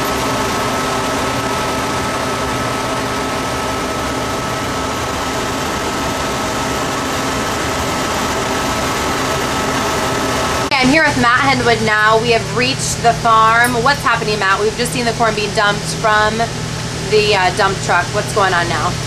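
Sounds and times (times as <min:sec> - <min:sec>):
constant thin whine: 0:00.0 - 0:19.0
grain-handling machinery drone: 0:00.0 - 0:19.0.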